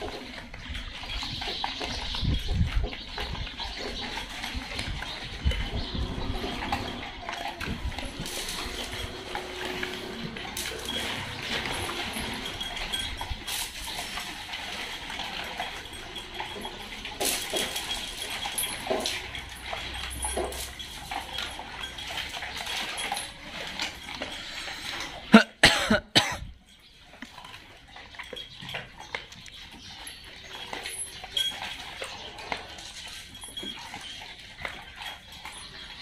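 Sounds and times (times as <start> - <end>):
dogs crunching dry kibble: 0.0 - 25.6, 26.5 - 36.0.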